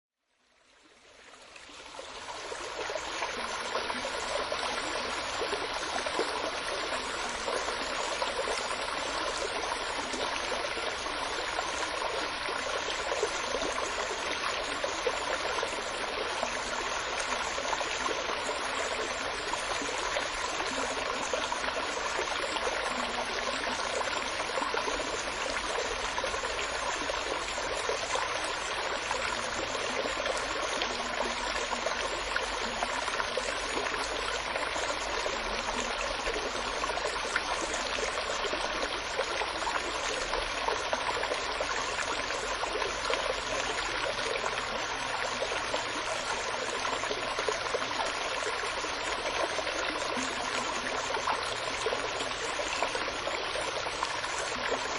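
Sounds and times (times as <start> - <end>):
stream flowing: 0.5 - 54.9.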